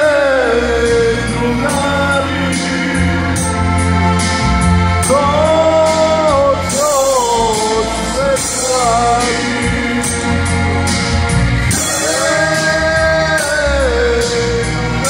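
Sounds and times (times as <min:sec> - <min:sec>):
man singing: 0:00.0 - 0:04.1, 0:05.0 - 0:10.9, 0:11.7 - 0:15.0
electronic keyboard with drum beat: 0:00.0 - 0:15.0.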